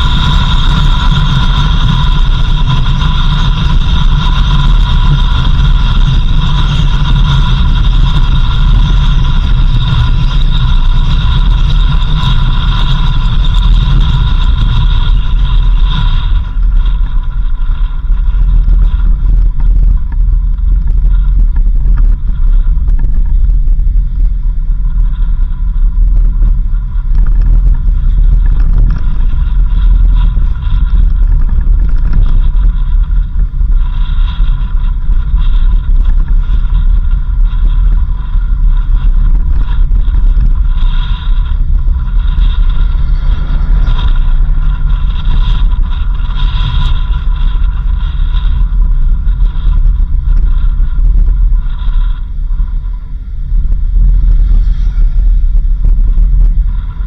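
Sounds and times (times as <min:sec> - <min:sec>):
faint steady whine: 0:00.0 - 0:57.0
vehicle engine and road rumble: 0:00.0 - 0:57.0.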